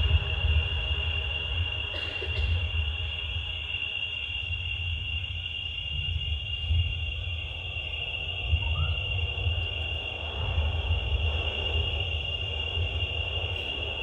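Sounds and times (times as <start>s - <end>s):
high insect-like whine: 0.0s - 14.0s
low wavering rumble: 0.0s - 14.0s.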